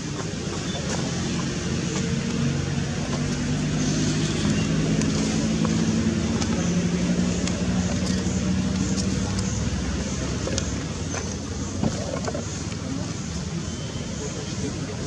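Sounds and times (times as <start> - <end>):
constant background noise: 0.0 - 15.0
motor engine running: 0.0 - 15.0.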